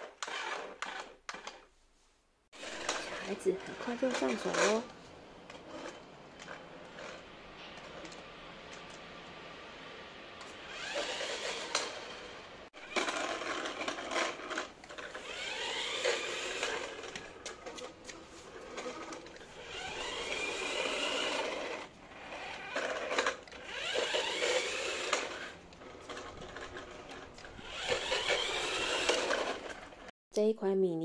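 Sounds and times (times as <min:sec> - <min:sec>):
toy car electric motors whirring: 0:00.0 - 0:01.7, 0:02.6 - 0:30.1.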